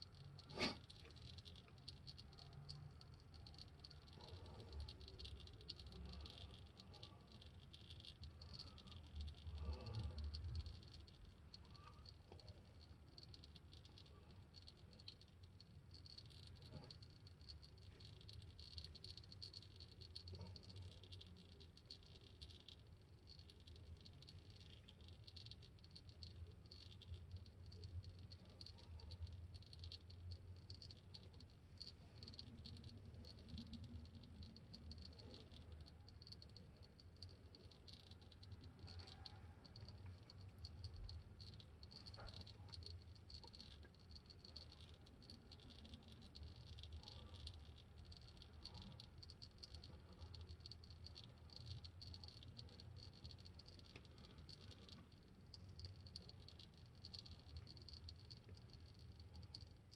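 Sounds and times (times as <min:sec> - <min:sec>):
low steady hum: 0:00.0 - 0:59.9
oil dripping into a pan: 0:00.0 - 0:59.9.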